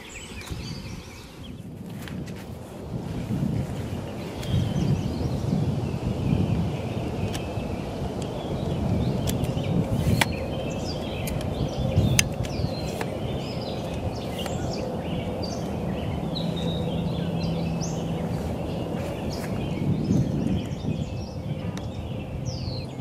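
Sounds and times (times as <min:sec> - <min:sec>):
birds chirping and whistling: 0:00.0 - 0:01.8, 0:03.3 - 0:23.0
low outdoor rumble: 0:00.0 - 0:23.0.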